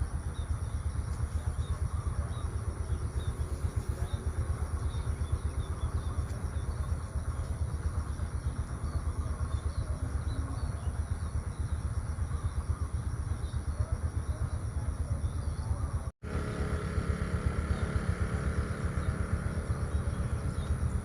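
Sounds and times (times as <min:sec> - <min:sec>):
low fluttering rumble: 0:00.0 - 0:21.0.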